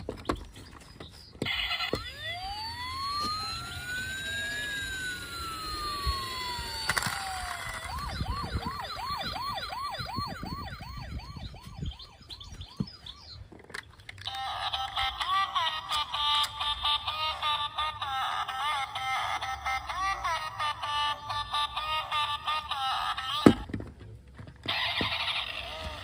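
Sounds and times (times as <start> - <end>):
siren wailing and yelping: 1.4 - 13.5, 14.3 - 23.6, 24.7 - 26.0.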